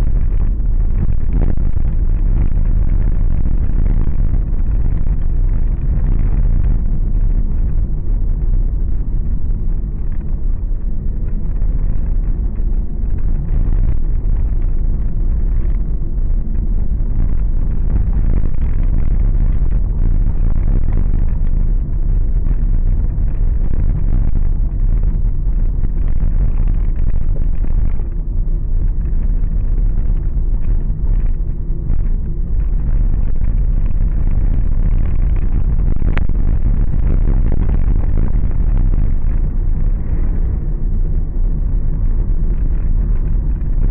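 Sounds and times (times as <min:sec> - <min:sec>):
car engine rumble: 0:00.0 - 0:43.9.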